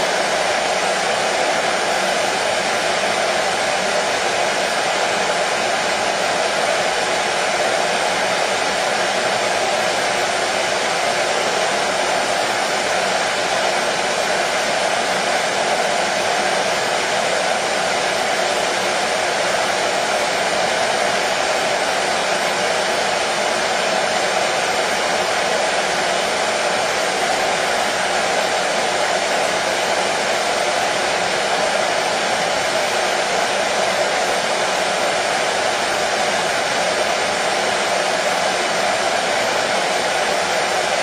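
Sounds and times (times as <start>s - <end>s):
hair dryer blowing: 0.0s - 41.0s.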